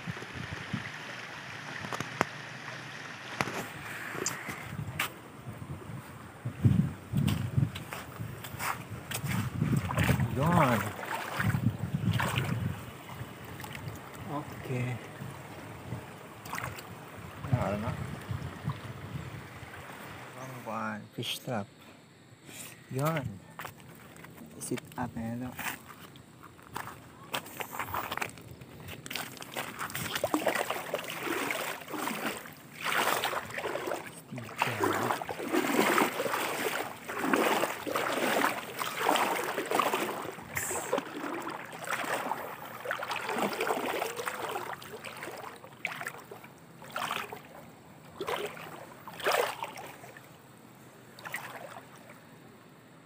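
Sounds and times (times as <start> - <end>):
river water sloshing and splashing: 0.0 - 20.8, 25.6 - 53.0.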